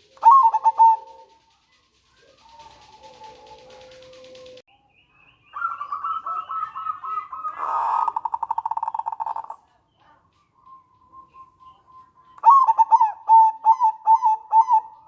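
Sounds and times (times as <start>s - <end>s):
dove cooing and trilling: 0.0s - 4.6s, 5.5s - 9.6s, 11.2s - 15.0s.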